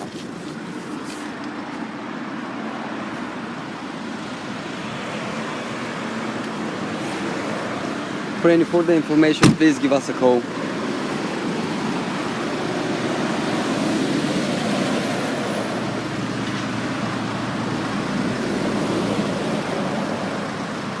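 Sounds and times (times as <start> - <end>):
motor vehicle rumble and hiss: 0.0 - 21.0.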